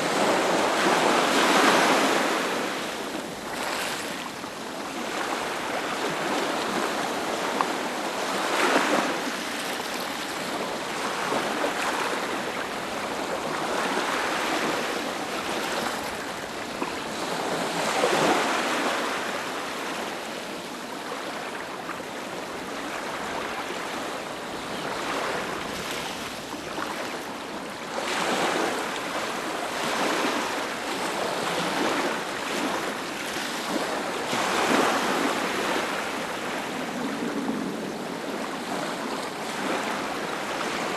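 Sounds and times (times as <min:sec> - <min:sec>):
ocean waves breaking on a beach: 0:00.0 - 0:40.9.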